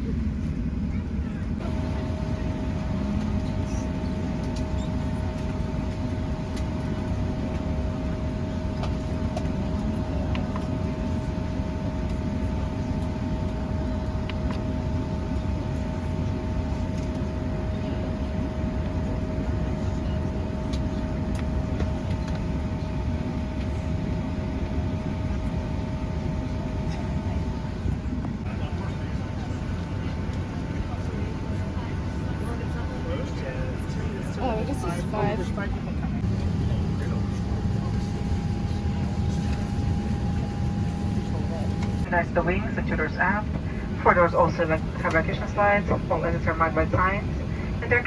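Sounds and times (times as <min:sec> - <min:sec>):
aircraft cabin low rumble: 0:00.0 - 0:48.0
steady whining tones: 0:01.6 - 0:48.0.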